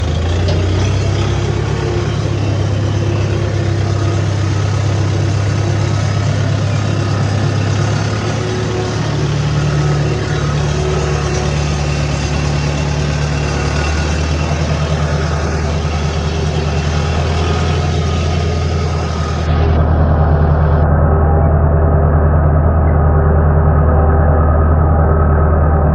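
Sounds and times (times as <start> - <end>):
motor engine humming: 0.0 - 25.9.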